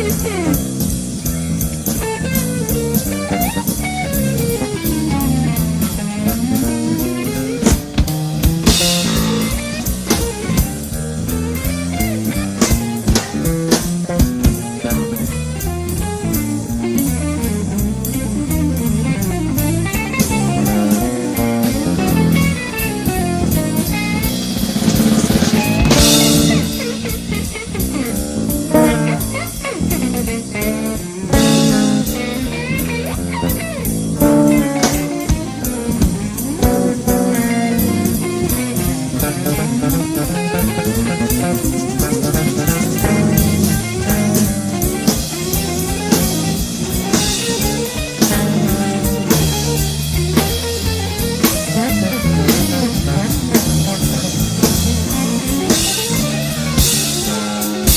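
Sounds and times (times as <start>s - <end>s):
drum groove: 0.0s - 57.9s
plucked electric bass line: 0.0s - 57.9s.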